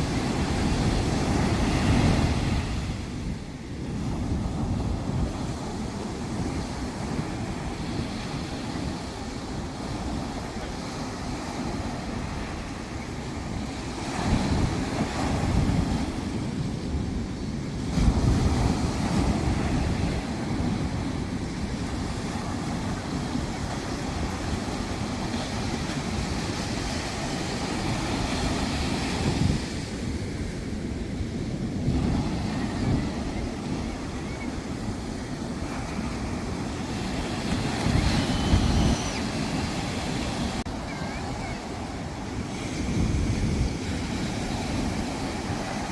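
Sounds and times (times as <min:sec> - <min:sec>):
sea waves washing onto beach: 0:00.0 - 0:45.9
wind buffeting microphone: 0:00.0 - 0:45.9.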